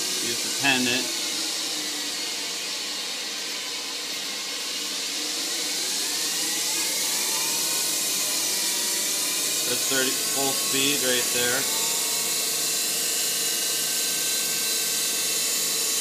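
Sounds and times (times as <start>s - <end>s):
lathe motor whining: 0.0s - 16.0s.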